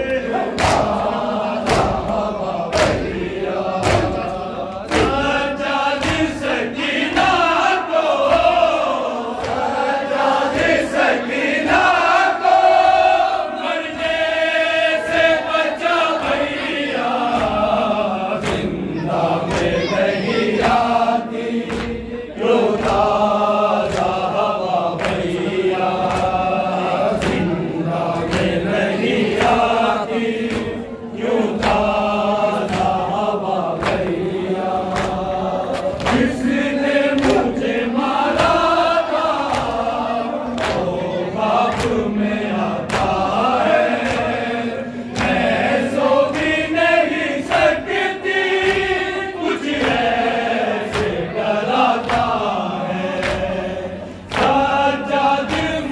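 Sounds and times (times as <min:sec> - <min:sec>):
group of men singing: 0:00.0 - 0:55.9.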